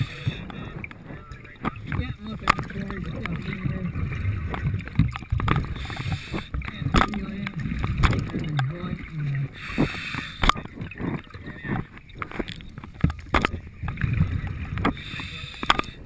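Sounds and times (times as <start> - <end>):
muffled underwater rumble: 0.0 - 16.0
water gurgling: 0.0 - 16.0
sharp clicks and knocks: 0.3 - 3.7, 4.4 - 9.1, 10.1 - 15.0.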